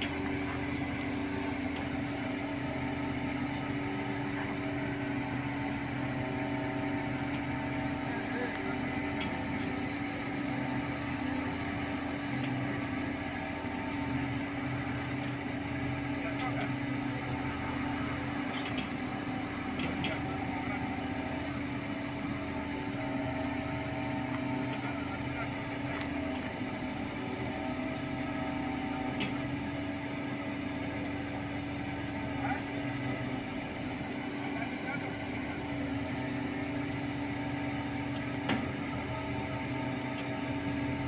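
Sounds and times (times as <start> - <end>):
crane diesel engines humming: 0.0 - 41.0.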